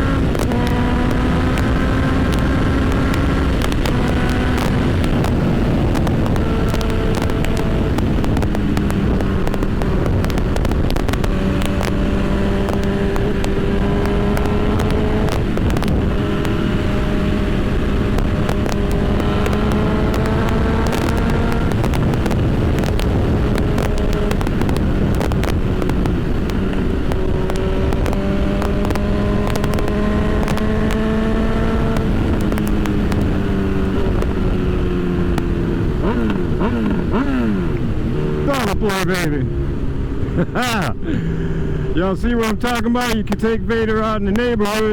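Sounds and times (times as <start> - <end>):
motorcycle engine accelerating: 0.0 - 44.9
wind buffeting microphone: 0.0 - 44.9.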